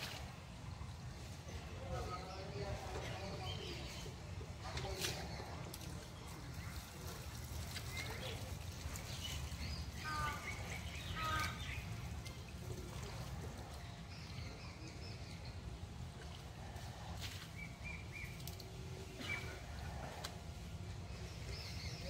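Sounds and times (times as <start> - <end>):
low outdoor rumble: 0.0 - 22.0
birds chirping: 0.7 - 22.0.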